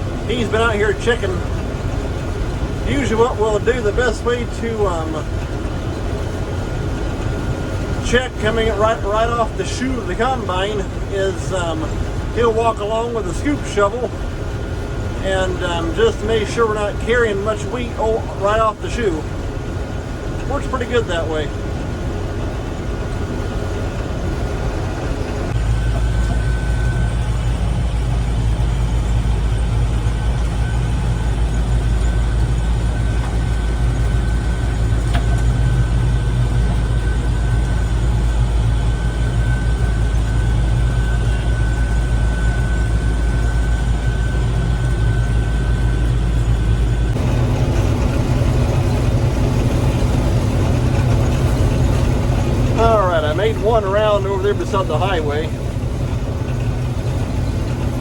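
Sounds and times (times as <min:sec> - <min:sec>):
combine harvester engine drone: 0:00.0 - 0:58.0
thin steady whine: 0:00.0 - 0:58.0.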